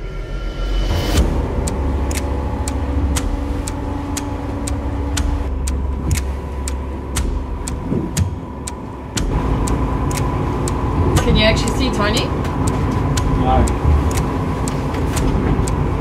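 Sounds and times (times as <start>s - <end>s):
boat engine drone: 0.0s - 16.0s
sharp ticking: 1.1s - 16.0s.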